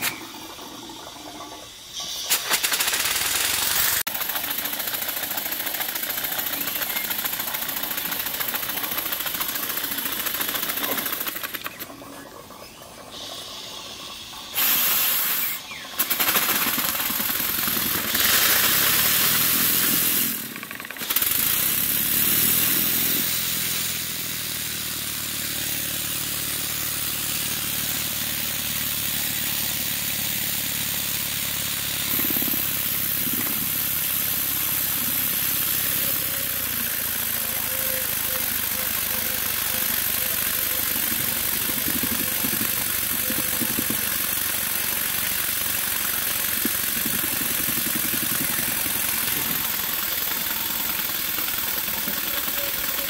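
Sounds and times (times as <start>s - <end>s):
model steam engine beating: 0.0s - 53.0s
steam hissing: 0.0s - 53.0s.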